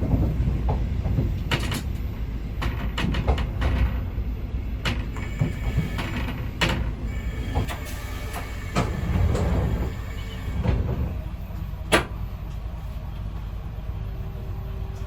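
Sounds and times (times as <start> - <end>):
railcar low rumble: 0.0 - 15.0.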